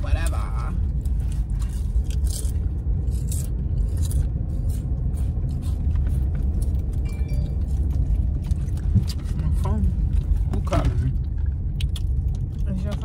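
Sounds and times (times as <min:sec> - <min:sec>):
low rumble inside car cabin: 0:00.0 - 0:13.0.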